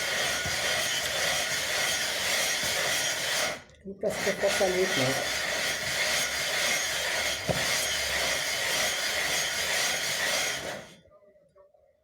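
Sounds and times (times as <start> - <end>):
metal scraping on sandpaper: 0.0 - 11.0.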